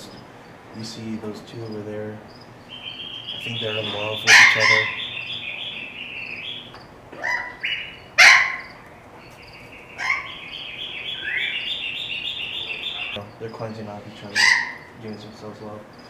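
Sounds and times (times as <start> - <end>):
parrots squawking: 0.0 - 13.5, 14.1 - 16.0
birds chirping and chattering: 0.0 - 16.0.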